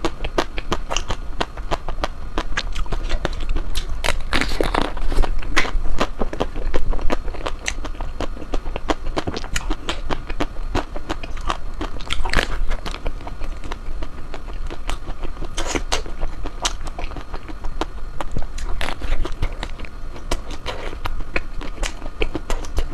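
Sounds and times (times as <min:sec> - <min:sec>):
wet biting and chewing: 0:00.0 - 0:22.9.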